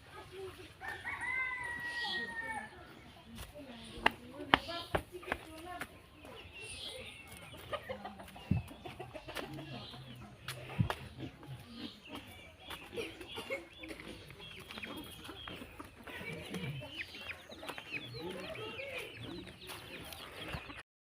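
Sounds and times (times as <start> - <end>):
chickens clucking and peeping: 0.0 - 20.8.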